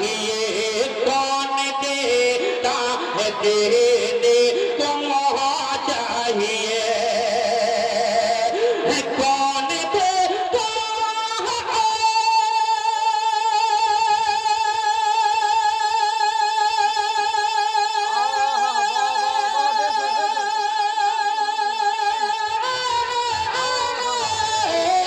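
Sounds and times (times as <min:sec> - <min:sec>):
man singing long high note: 0:00.0 - 0:25.0.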